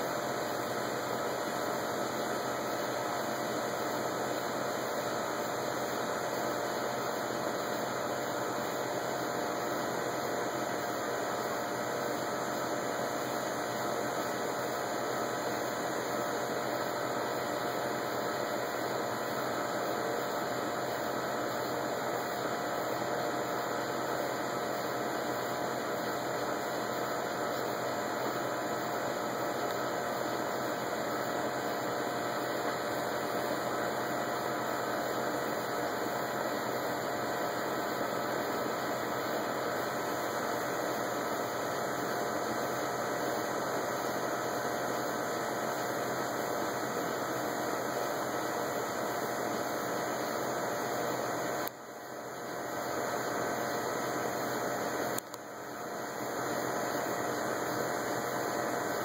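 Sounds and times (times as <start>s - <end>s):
faint hum of steady tones: 0.0s - 59.0s
steady background noise: 0.0s - 59.0s.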